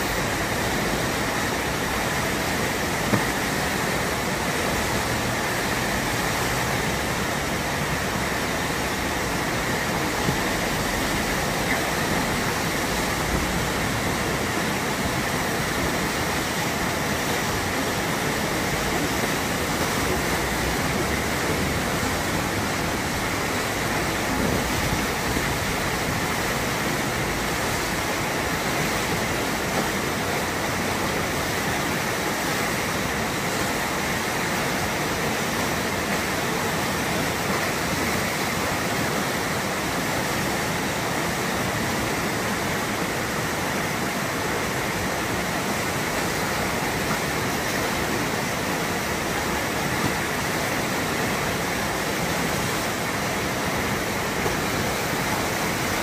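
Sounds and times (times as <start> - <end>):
river whitewater rushing: 0.0 - 56.0.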